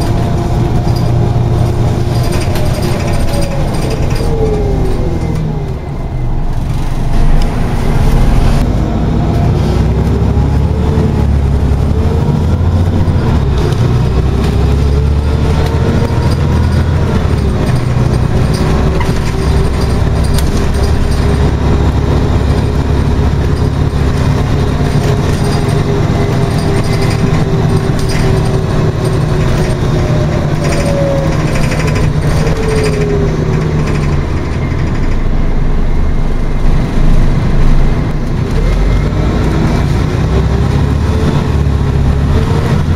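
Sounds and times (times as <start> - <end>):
bus engine drone: 0.0 - 42.9
drivetrain whine: 0.0 - 42.9
road rumble: 0.0 - 42.9.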